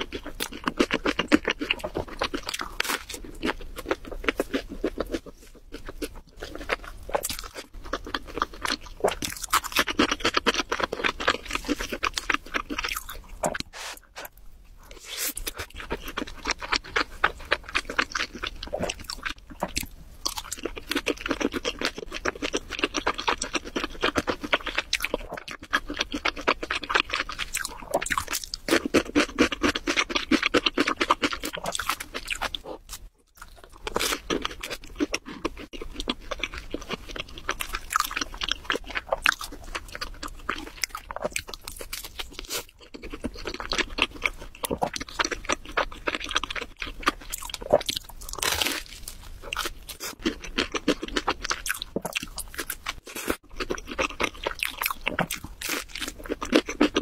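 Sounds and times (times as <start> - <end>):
crunching and chewing pizza: 0.0 - 57.0.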